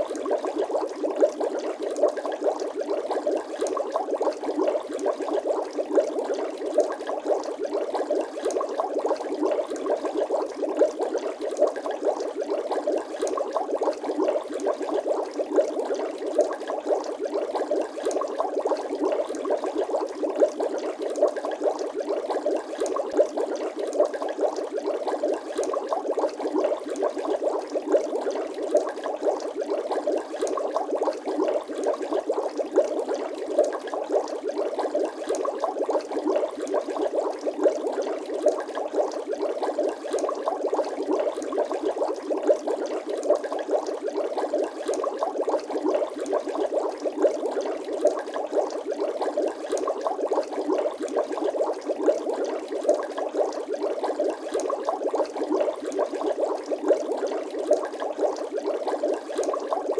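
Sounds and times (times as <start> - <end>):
water bubbling: 0.0 - 59.9.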